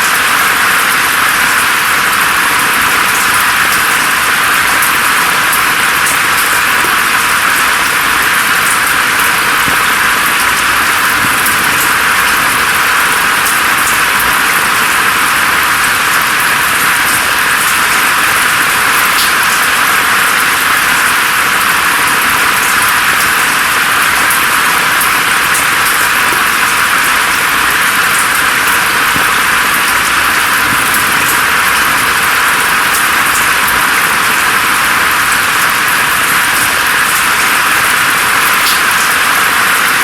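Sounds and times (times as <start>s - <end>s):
rain falling through foliage: 0.0s - 40.0s.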